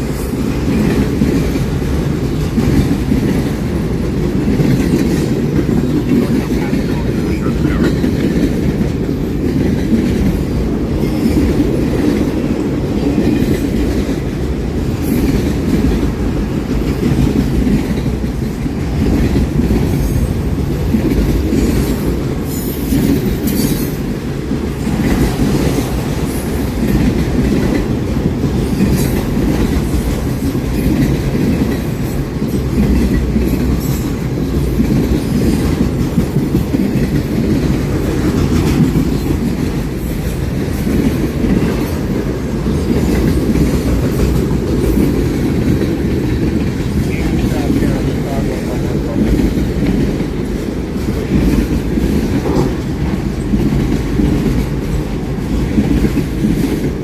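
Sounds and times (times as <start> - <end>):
clickety-clack of wheels on rails: 0.0 - 57.0
train cars rumbling past: 0.0 - 57.0.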